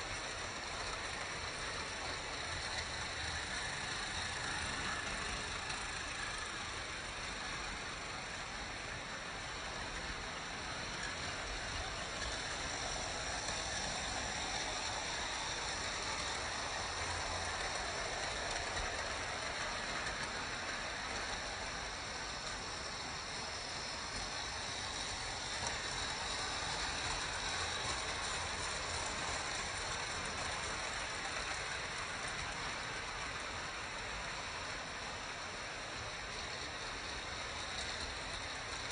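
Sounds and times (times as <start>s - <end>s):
model train wheels rolling on rails: 0.0s - 38.9s.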